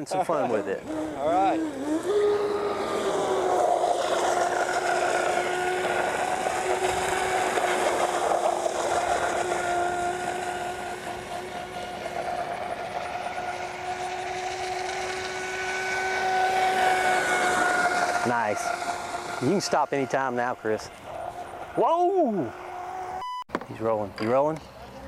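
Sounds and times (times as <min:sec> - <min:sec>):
high-pitched electric motor whine: 0:00.0 - 0:23.4.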